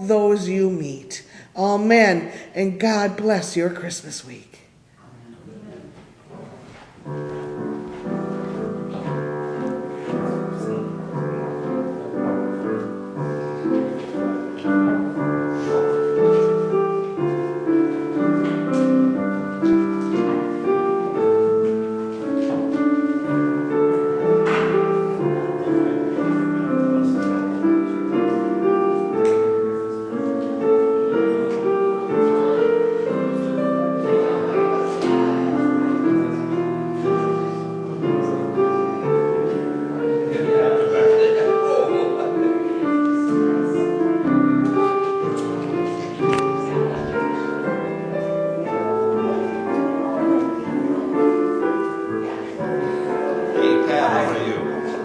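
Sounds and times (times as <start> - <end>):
piano music: 0.0 - 4.0, 7.0 - 55.0.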